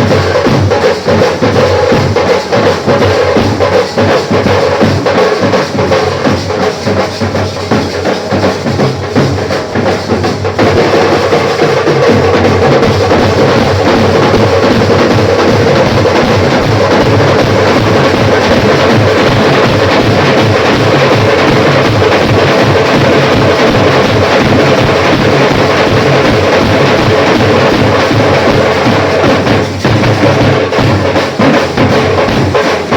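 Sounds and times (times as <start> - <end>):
fast heavy drumming: 0.0 - 32.9
live band playing loud music: 0.0 - 32.9.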